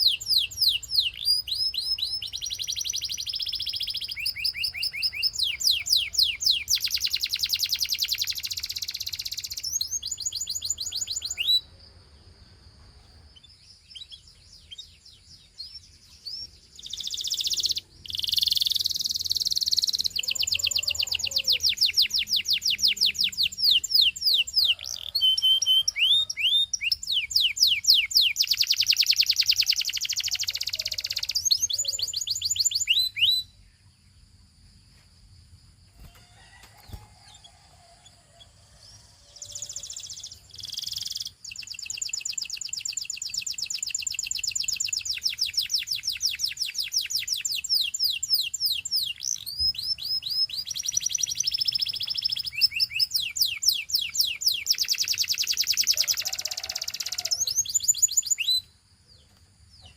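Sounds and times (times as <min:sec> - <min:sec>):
canary singing fast trills: 0:00.0 - 0:11.8, 0:13.1 - 0:34.6, 0:35.9 - 0:59.9.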